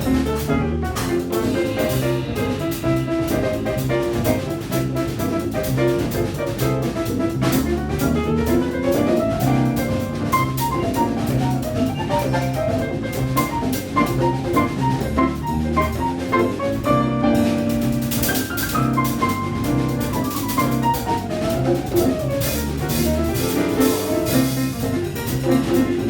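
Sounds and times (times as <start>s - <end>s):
bass: 0.0s - 26.0s
drum kit and hand percussion: 0.0s - 26.0s
piano: 0.0s - 26.0s.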